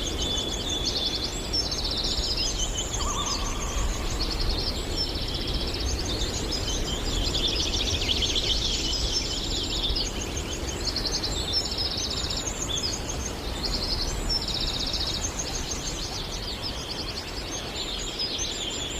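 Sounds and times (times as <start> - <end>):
birds singing trills: 0.0 - 18.9.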